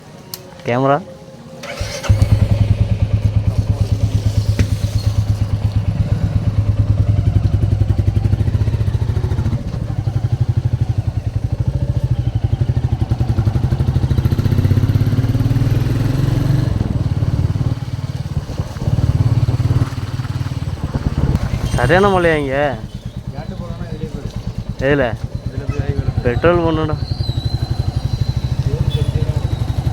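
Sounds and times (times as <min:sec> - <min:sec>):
motorcycle engine running: 0:01.6 - 0:29.9.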